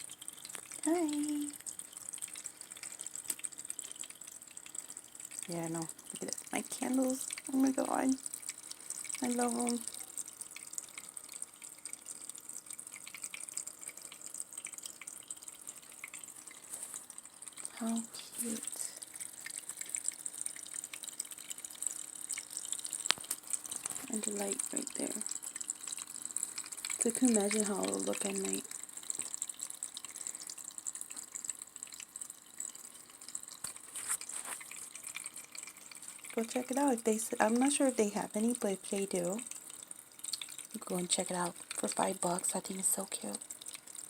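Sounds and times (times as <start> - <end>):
small water splashes: 0.0 - 44.0
water fountain trickling: 0.0 - 44.0.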